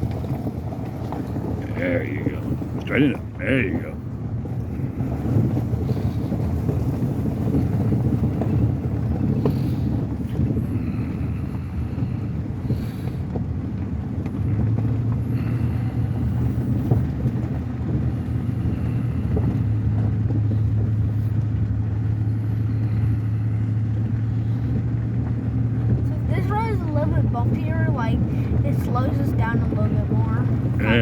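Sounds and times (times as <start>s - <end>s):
truck engine drone: 0.0s - 31.0s
tyre and road rumble: 0.0s - 31.0s.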